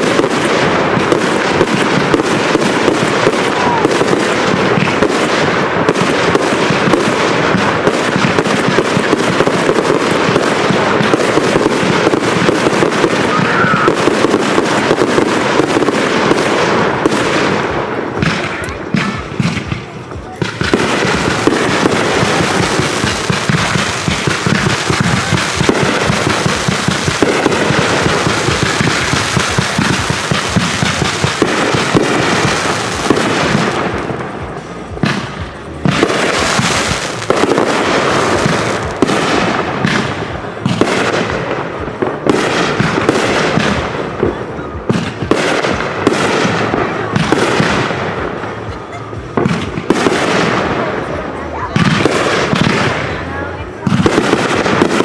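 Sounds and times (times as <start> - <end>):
fireworks bangs: 0.0 - 55.0
fireworks crackling bursts: 0.0 - 55.0.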